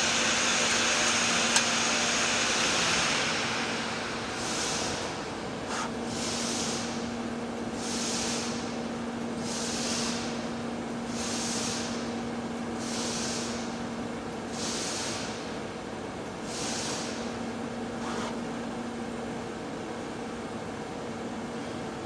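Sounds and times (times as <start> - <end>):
welding arc hum: 0.0 - 18.6.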